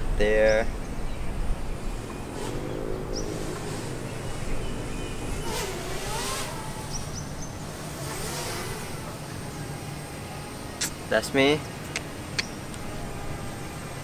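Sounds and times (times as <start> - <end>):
drone buzzing hum: 0.7 - 14.0.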